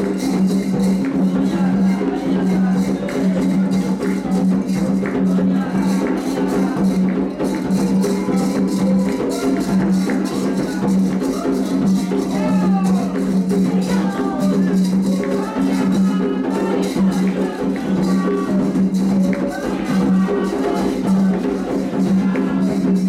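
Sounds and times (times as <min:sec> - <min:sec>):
hand drums: 0:00.0 - 0:23.0
shaker rattle: 0:00.0 - 0:23.0
voices singing: 0:00.0 - 0:23.0.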